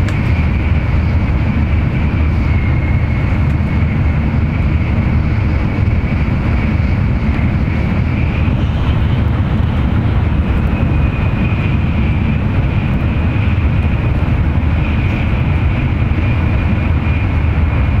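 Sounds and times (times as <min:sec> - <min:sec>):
train wheels and air rumbling: 0:00.0 - 0:18.0.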